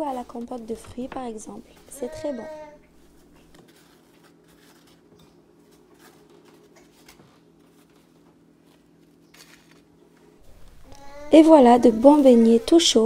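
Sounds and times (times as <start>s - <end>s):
low steady hum: 0.0s - 13.0s
sugar rustling and scraping: 0.0s - 13.0s.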